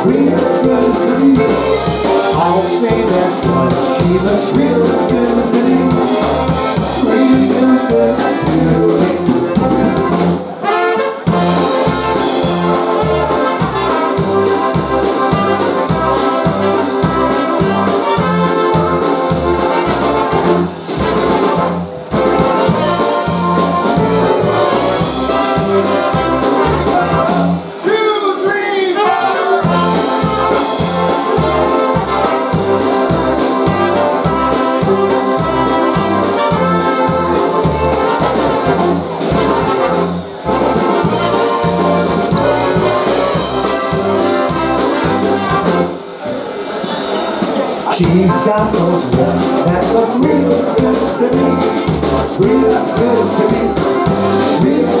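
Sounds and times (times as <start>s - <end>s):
polka band playing: 0.0s - 55.0s.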